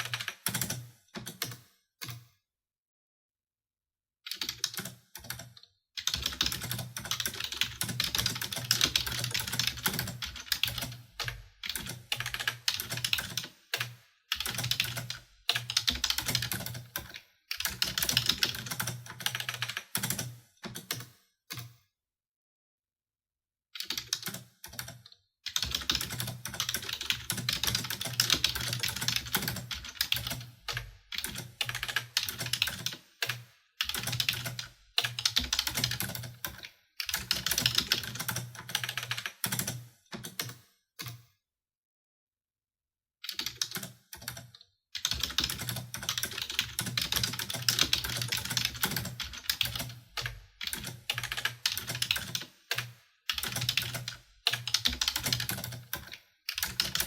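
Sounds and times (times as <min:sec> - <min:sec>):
typing on computer keyboard: 0:00.0 - 0:02.4, 0:04.3 - 0:21.8, 0:23.8 - 0:41.3, 0:43.2 - 0:57.0.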